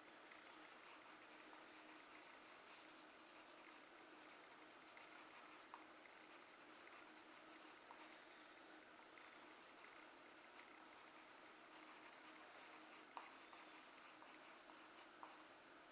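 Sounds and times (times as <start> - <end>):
charcoal pencil scratching paper: 0.2 - 8.2, 9.2 - 15.5.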